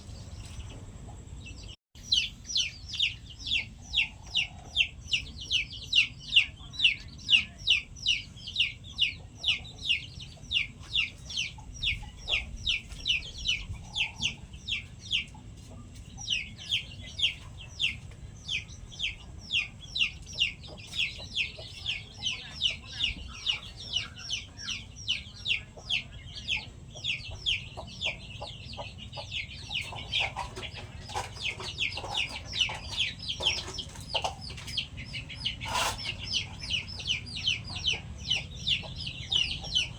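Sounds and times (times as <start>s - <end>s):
chick peeping: 0.0s - 39.9s
chicken clucking: 0.4s - 39.9s.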